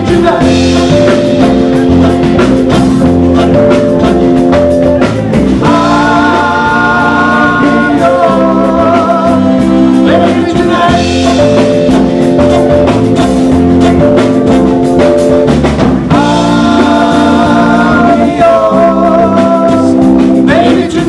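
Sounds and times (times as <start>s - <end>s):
band with singing and guitar: 0.0s - 21.0s
steady drum beat: 0.0s - 21.0s.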